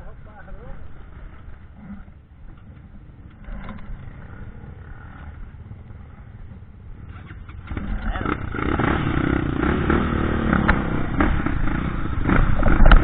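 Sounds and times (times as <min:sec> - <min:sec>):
off-road motorcycle engine running: 0:00.0 - 0:13.0.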